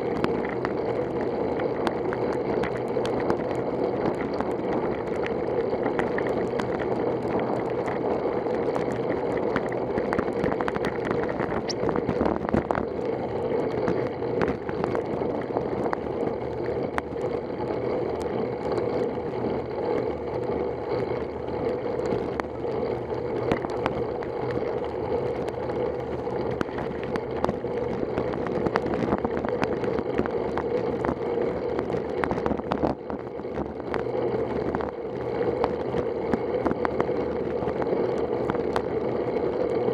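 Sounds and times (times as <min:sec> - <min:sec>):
tyres on wet road: 0:00.0 - 0:39.9
wind: 0:00.0 - 0:39.9.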